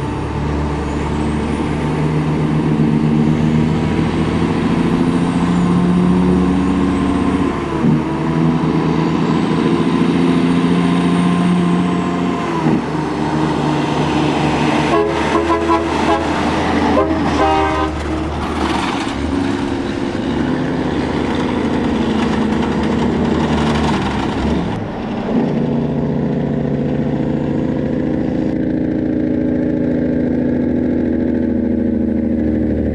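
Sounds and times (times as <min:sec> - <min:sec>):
truck diesel engine under load: 0:00.0 - 0:32.9.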